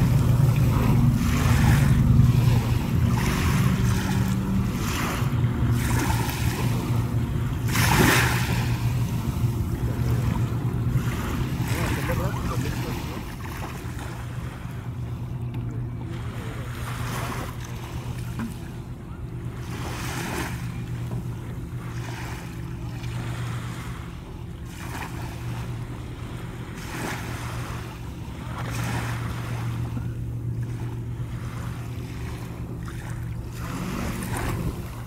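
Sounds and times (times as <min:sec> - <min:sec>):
small waves lapping on shore: 0:00.0 - 0:35.0
steady low hum: 0:00.0 - 0:35.0.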